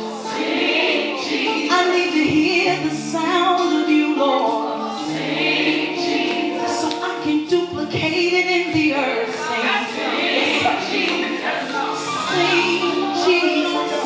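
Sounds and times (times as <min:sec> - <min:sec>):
choir singing gospel song: 0:00.0 - 0:14.0.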